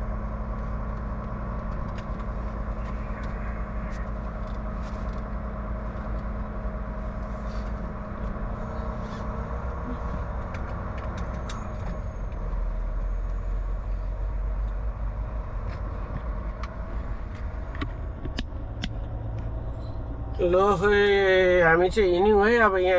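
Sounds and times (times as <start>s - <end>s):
road noise: 0.0s - 22.9s
truck diesel engine rumbling: 0.0s - 22.9s.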